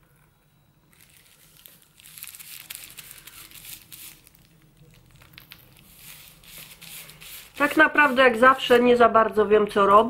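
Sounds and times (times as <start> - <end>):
plastic gloves crinkling: 0.9 - 10.0.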